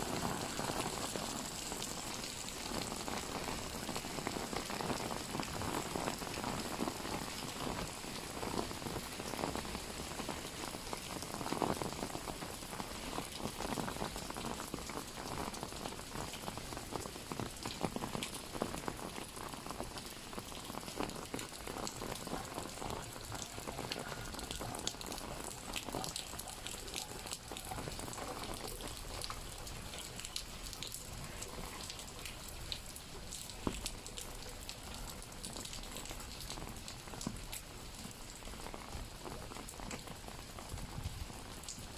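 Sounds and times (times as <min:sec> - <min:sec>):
rain pattering on an umbrella: 0:00.0 - 0:41.9.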